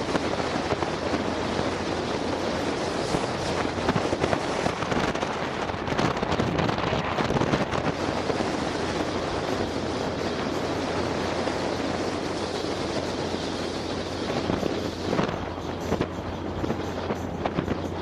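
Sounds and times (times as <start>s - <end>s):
low vehicle drone: 0.0s - 18.0s
wind buffeting microphone: 0.0s - 18.0s.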